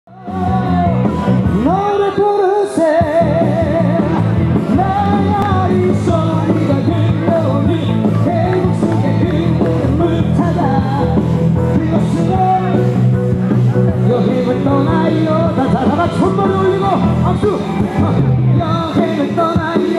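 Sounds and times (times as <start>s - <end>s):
rock pop song with singing: 0.1s - 19.9s.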